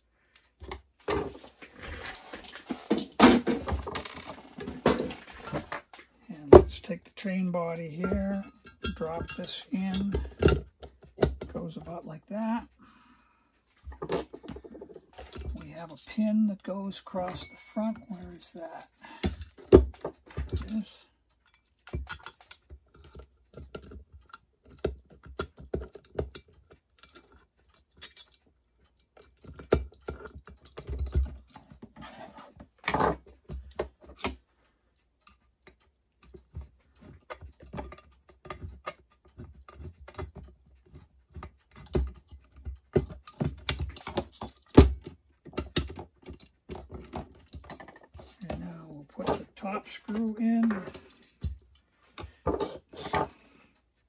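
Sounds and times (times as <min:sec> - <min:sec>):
metal parts clicking and tapping: 0:00.2 - 0:12.7, 0:13.6 - 0:53.9.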